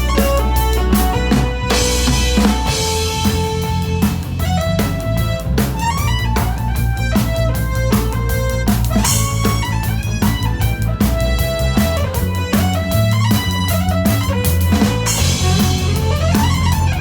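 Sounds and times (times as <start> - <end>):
electric guitar melody: 0.0 - 17.0
rock band playing: 0.0 - 17.0.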